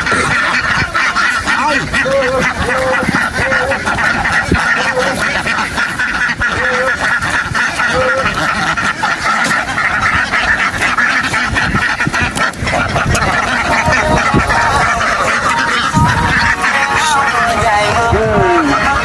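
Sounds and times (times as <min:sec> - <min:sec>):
ducks quacking: 0:00.0 - 0:19.0.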